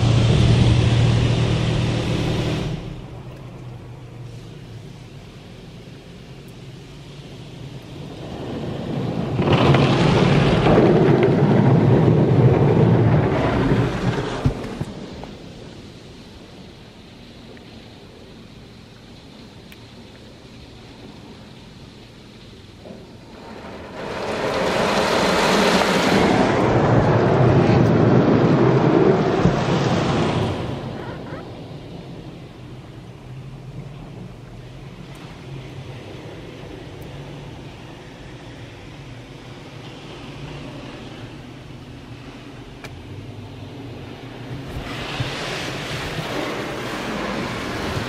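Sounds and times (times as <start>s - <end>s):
water spray rushing on car: 0.0s - 48.0s.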